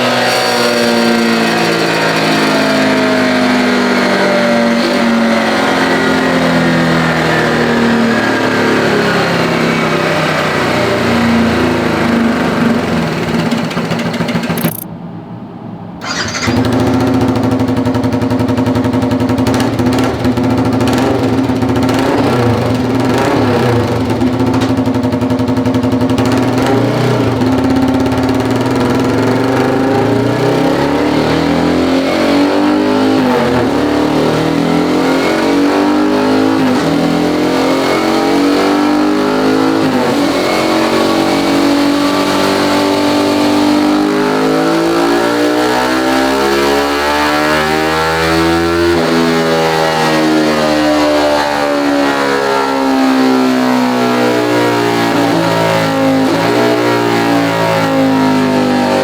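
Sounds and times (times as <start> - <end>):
motorbike engine accelerating: 0.0 - 14.9, 16.0 - 59.0.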